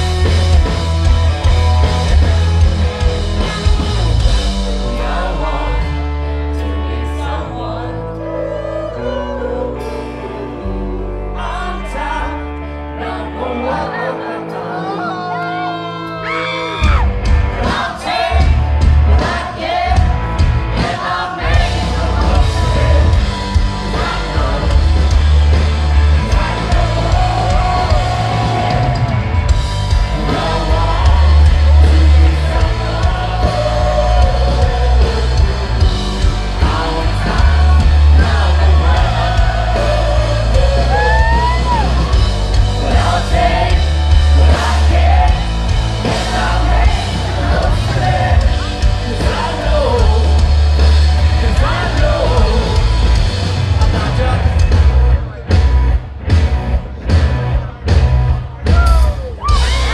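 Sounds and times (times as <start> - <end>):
live rock band playing: 0.0 - 59.9
man singing: 3.0 - 20.2, 20.8 - 29.2, 29.9 - 55.4.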